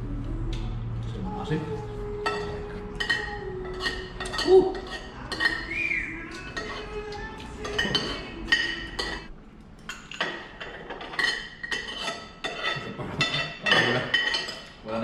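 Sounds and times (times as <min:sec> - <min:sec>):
cutlery clinking on plates: 0:02.2 - 0:14.8.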